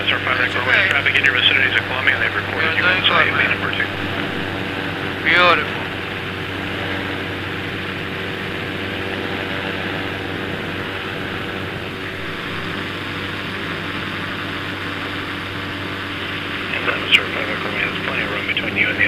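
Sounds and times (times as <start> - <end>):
ultralight engine and propeller drone: 0.0 - 19.0.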